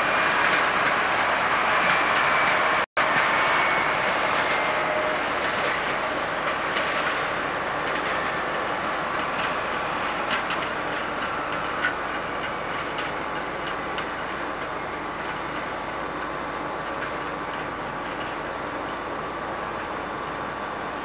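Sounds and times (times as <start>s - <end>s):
train running rumble and hiss: 0.0s - 21.0s.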